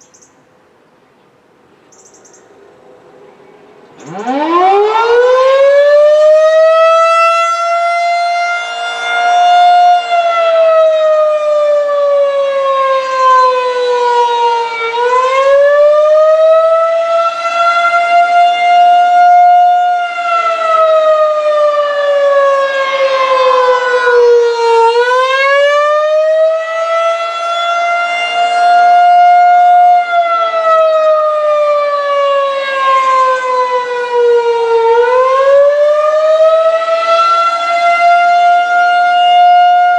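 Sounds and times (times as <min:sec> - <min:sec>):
wavering warning siren wail: 0:02.4 - 0:39.9.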